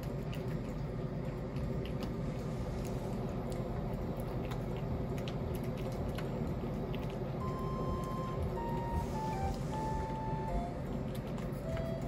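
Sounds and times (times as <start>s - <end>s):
cat chewing and licking: 0.0s - 12.0s
steady low hum: 0.0s - 12.0s.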